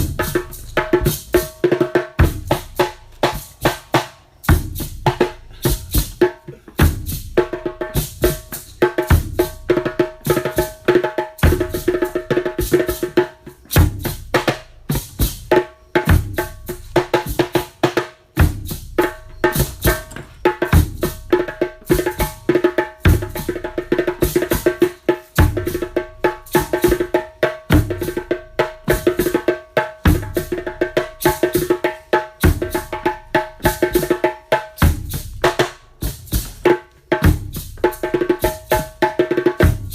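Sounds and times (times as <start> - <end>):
quick hand-drum strokes: 0.0 - 39.9.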